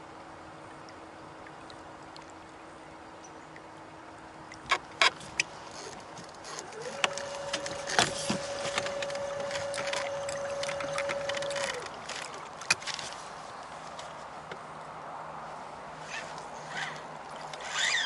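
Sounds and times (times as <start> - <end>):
boat motor humming: 0.0 - 14.9
water rushing and splashing: 0.0 - 18.0.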